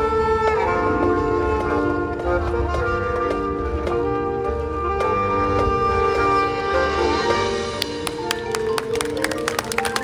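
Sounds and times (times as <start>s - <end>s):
marching band playing: 0.0s - 10.0s.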